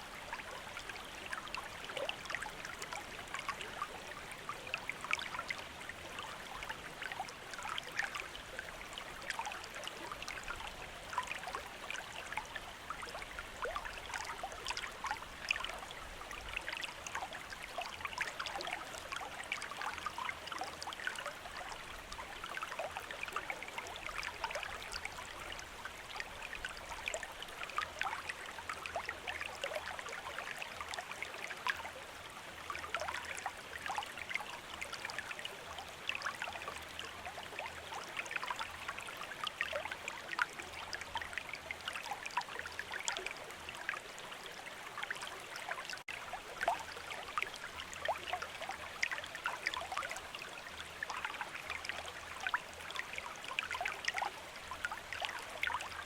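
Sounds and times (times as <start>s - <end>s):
river babbling: 0.0s - 56.0s.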